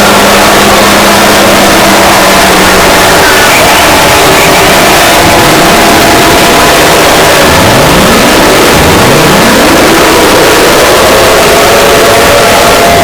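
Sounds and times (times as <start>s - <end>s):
distorted alarm tones: 0.0s - 13.0s
rising siren sweeps: 0.0s - 13.0s.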